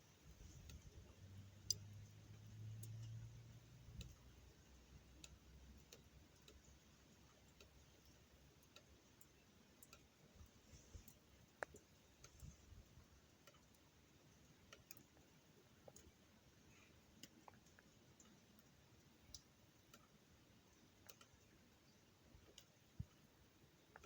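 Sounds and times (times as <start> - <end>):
faint ticks and clicks: 0.0 - 24.0.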